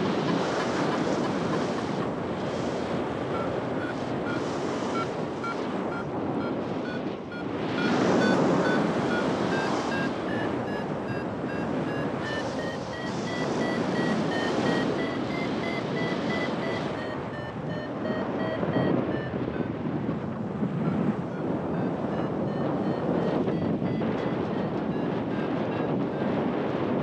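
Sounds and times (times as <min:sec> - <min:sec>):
variometer beeping rapidly: 0:00.0 - 0:19.7, 0:20.8 - 0:25.4
wind rushing over microphone: 0:00.0 - 0:27.0.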